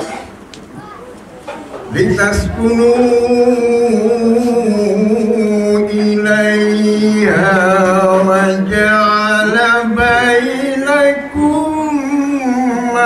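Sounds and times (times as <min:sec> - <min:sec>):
man chanting: 0:01.9 - 0:13.0.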